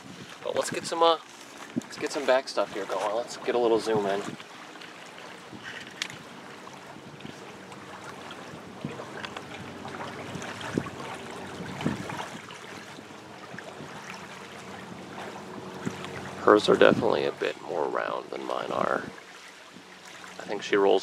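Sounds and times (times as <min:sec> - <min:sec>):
wind buffeting microphone: 0:00.0 - 0:04.5, 0:05.4 - 0:19.9.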